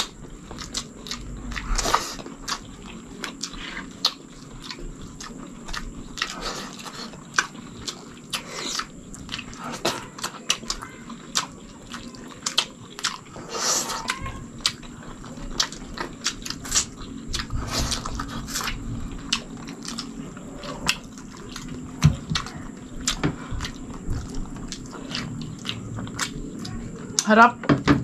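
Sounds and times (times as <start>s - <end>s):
wet chewing: 0.0s - 27.5s.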